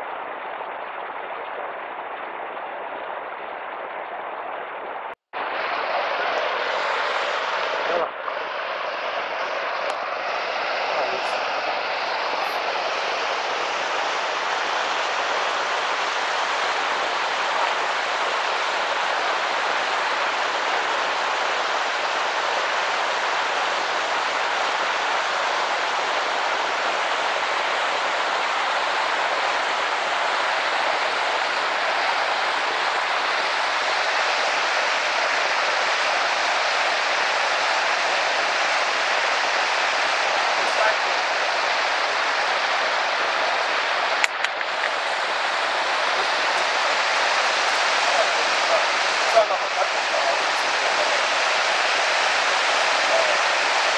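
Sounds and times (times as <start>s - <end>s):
waterfall crashing into pool: 5.4s - 53.9s.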